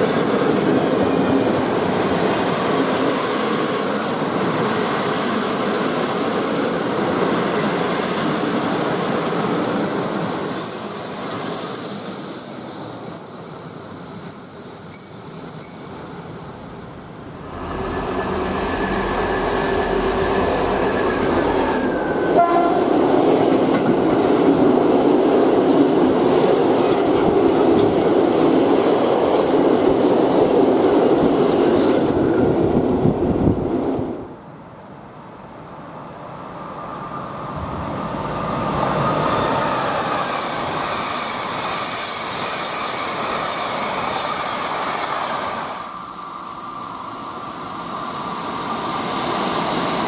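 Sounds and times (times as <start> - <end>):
train rumble and rail noise: 0.0 - 50.0.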